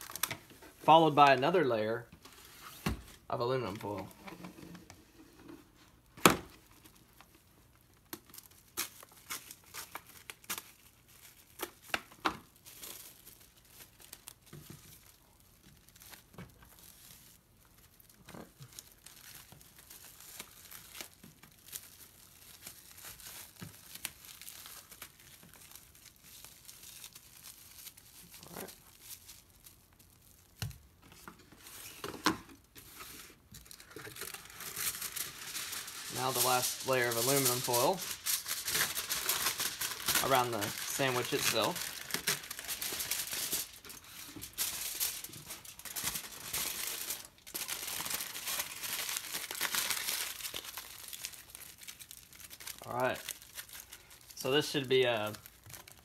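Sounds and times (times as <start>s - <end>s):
plastic cling wrap crinkling: 0.0s - 4.5s, 5.7s - 56.0s.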